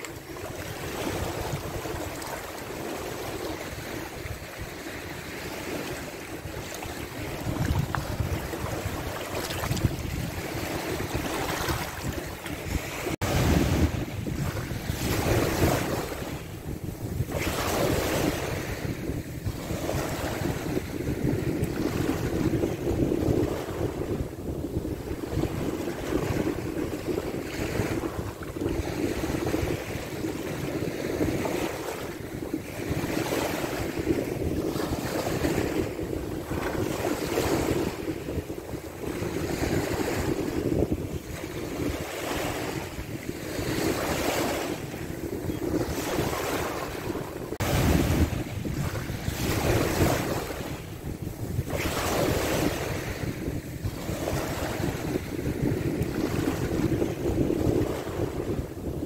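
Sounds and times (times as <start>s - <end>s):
small waves lapping on shore: 0.0s - 59.0s
wind rumble on microphone: 0.0s - 59.0s.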